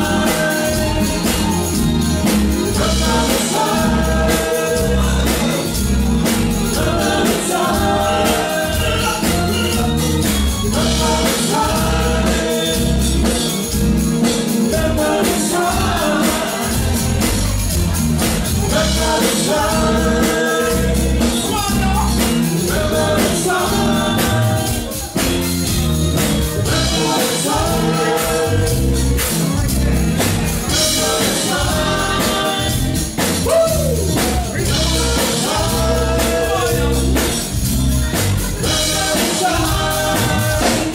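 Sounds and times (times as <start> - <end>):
lead vocals singing: 0.0 - 40.9
live dance band playing: 0.0 - 40.9.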